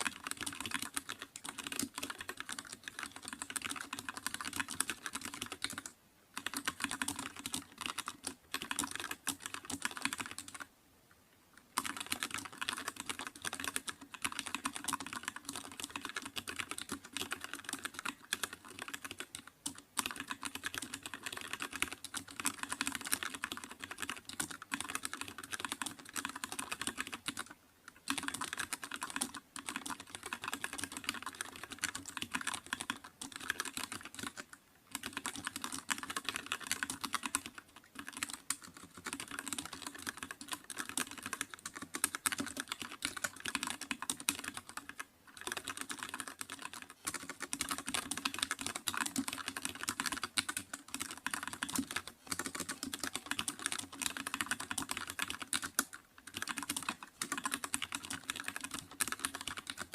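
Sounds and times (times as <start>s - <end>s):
fast typing on keyboard: 0.0s - 10.7s, 11.7s - 59.9s.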